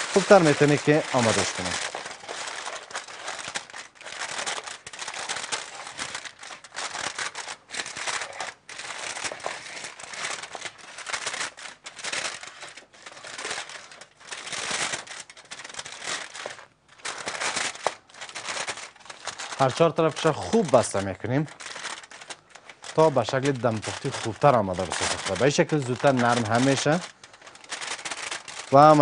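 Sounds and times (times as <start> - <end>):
aluminium foil crinkling: 0.0 - 29.0.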